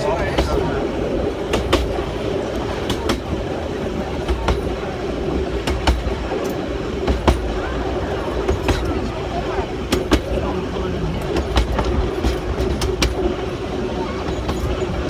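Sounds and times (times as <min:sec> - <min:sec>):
train rumble: 0:00.0 - 0:15.0
wheels clacking over rail joints: 0:00.0 - 0:15.0.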